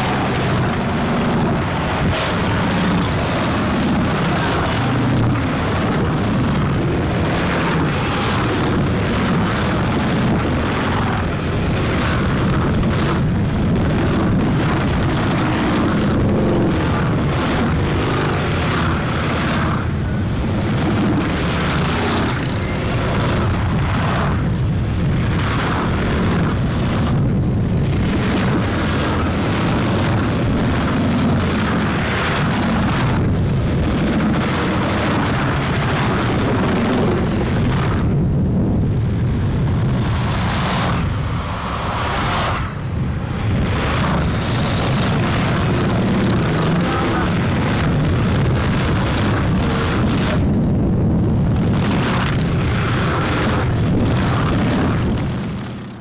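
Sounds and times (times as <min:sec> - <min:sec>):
motorcycles rumbling past: 0:00.0 - 0:38.2, 0:39.4 - 0:50.8.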